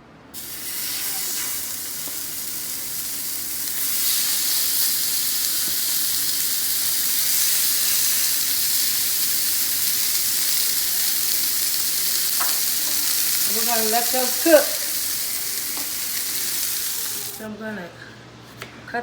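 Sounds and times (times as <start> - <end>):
meat sizzling in a skillet: 0.4 - 17.4.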